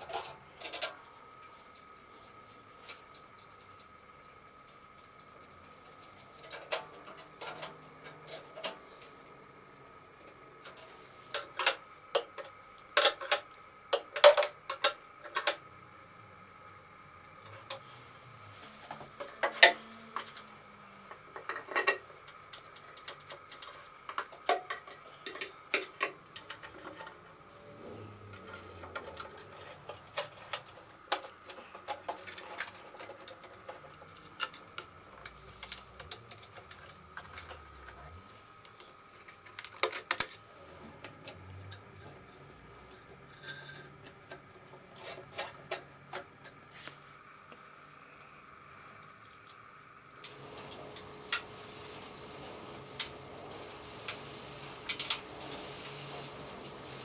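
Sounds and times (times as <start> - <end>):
faint steady whine: 0.0 - 57.0.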